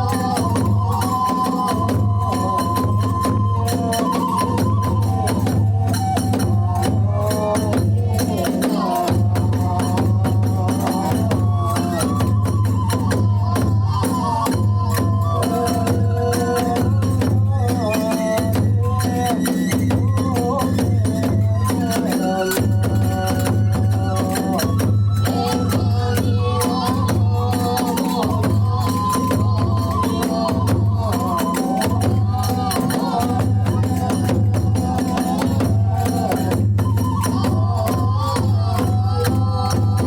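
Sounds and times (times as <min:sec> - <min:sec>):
bamboo flute melody: 0:00.0 - 0:40.0.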